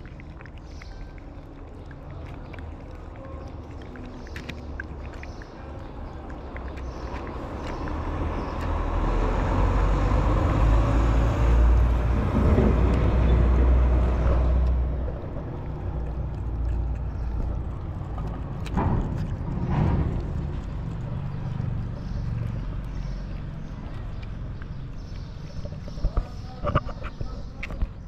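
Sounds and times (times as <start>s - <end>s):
vehicle passing rumble: 0.0s - 28.0s.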